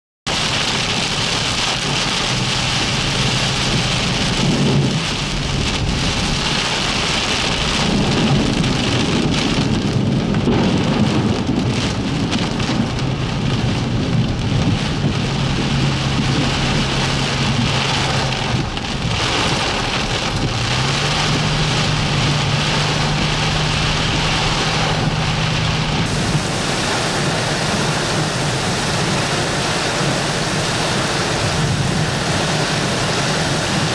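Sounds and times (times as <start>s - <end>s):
heavy rain pouring: 0.3s - 33.9s
vehicle engine humming: 0.3s - 33.9s.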